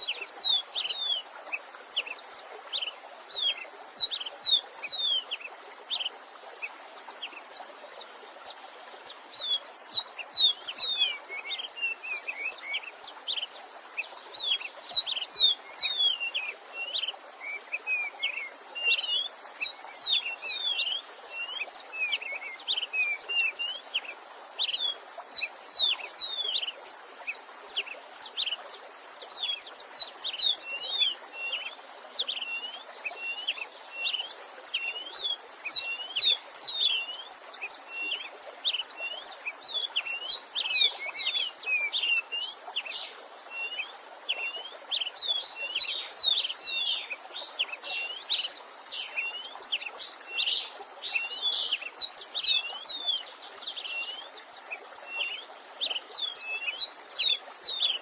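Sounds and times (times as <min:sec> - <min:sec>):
songbird singing: 0:00.0 - 0:58.0
stream rushing: 0:00.0 - 0:58.0.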